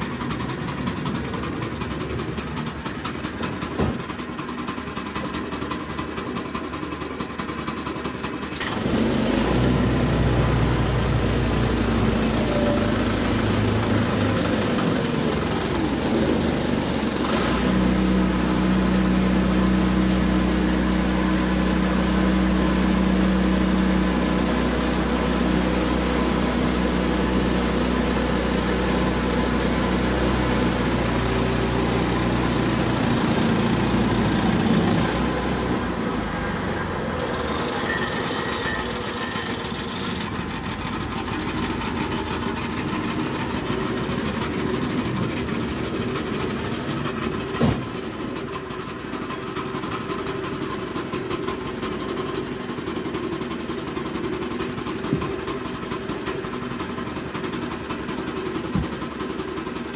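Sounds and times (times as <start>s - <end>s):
bandsaw mill engine under load: 0.0s - 59.9s.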